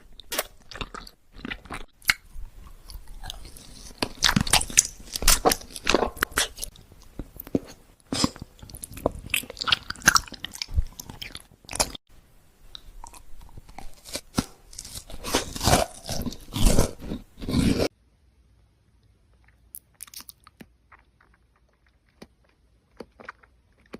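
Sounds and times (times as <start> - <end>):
crunchy chewing of food: 0.0 - 12.0, 12.7 - 17.9, 19.4 - 23.9.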